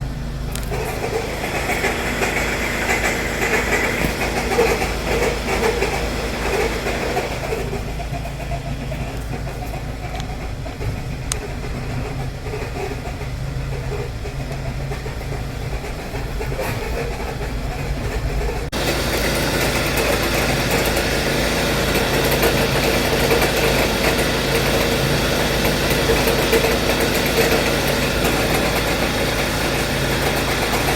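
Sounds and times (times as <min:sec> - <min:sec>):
abnormal accessory drive noise: 0:00.0 - 0:30.9
car engine running: 0:00.0 - 0:30.9.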